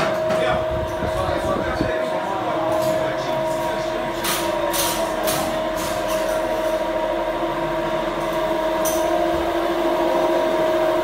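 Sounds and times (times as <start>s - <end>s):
machine whining and humming: 0.0s - 11.0s.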